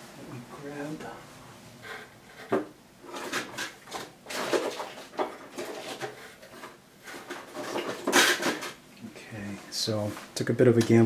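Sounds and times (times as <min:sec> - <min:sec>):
rustles and clatters of objects: 0:01.8 - 0:11.0.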